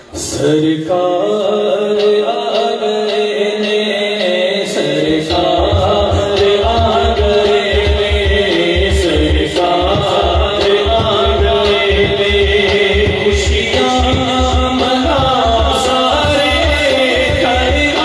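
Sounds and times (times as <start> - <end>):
man singing: 0.0 - 18.0
low drum beat: 2.6 - 18.0.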